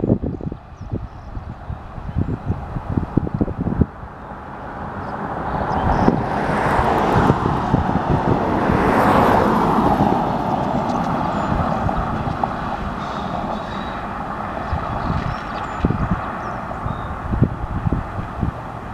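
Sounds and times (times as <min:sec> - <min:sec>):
freight train rumbling past: 0:01.5 - 0:18.9.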